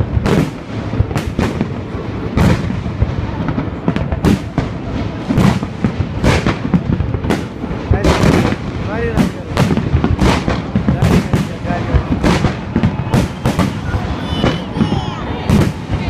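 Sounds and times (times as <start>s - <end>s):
fireworks booming: 0.0s - 16.0s
fireworks rumble and crackle: 0.0s - 16.0s.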